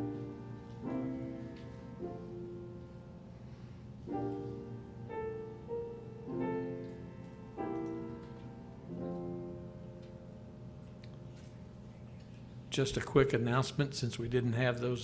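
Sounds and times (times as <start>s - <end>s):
piano playing slow chords: 0.0s - 12.6s.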